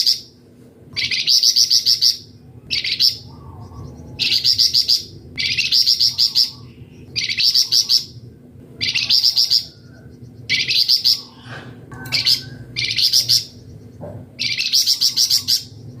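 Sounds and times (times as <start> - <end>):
faint low steady hum: 0.0 - 16.0
songbird trilling: 1.0 - 8.2, 8.8 - 16.0.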